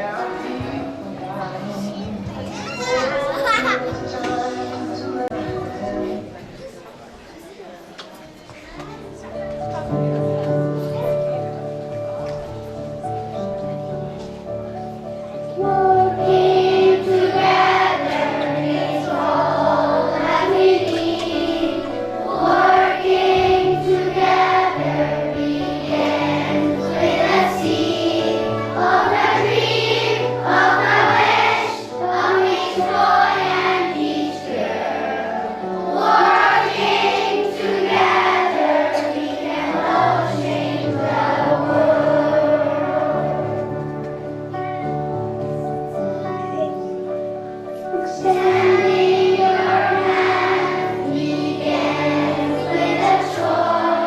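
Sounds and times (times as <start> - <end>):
children's choir singing: 0.0 - 6.8, 12.4 - 54.0
instrumental backing music: 9.0 - 54.0.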